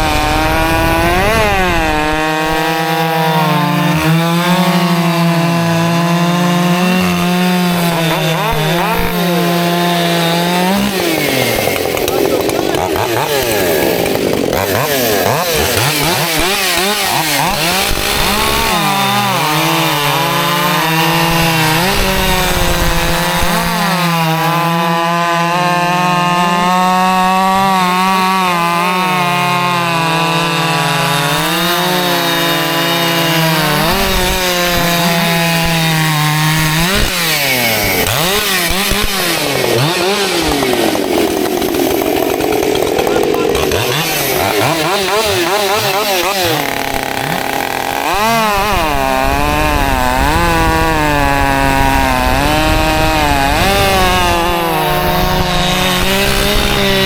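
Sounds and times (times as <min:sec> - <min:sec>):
chainsaw revving and cutting: 0:00.0 - 0:57.0.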